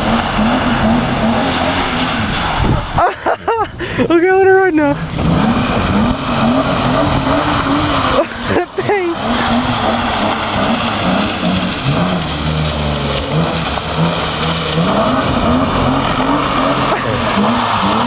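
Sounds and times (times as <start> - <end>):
car engine revving: 0.0 - 3.6, 4.2 - 18.0
wet tyres hissing: 0.0 - 4.0, 4.9 - 18.0.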